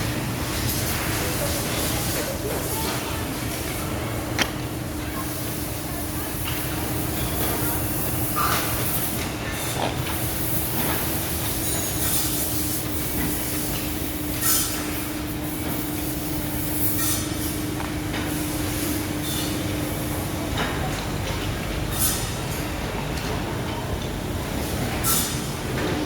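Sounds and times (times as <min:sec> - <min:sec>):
machinery rumbling and humming: 0:00.0 - 0:26.0.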